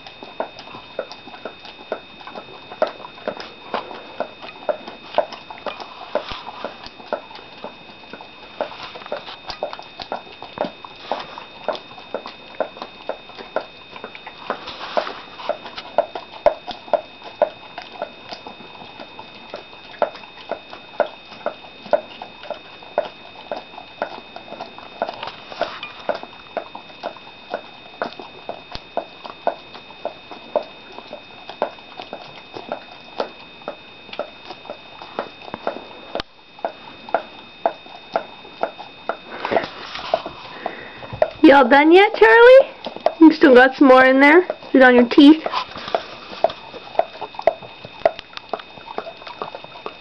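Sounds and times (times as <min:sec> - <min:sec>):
dogs licking and smacking mouths: 0:00.0 - 0:50.0.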